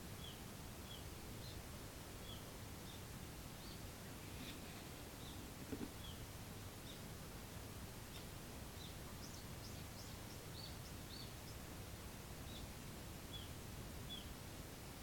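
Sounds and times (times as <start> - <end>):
small birds chirping: 0.1 - 7.2, 8.0 - 11.7, 12.4 - 14.4.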